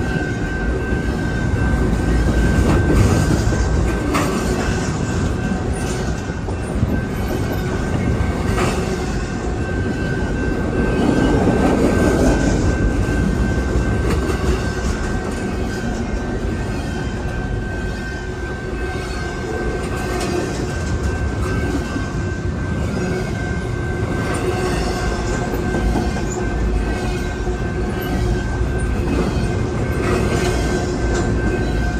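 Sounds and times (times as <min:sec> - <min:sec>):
steel wheels rumbling on rail: 0:00.0 - 0:31.9.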